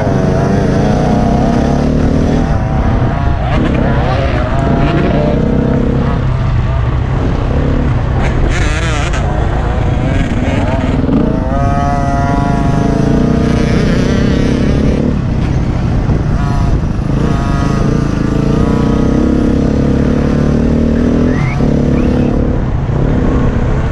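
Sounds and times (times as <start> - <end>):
dirt bike engines revving: 0.0 - 23.9.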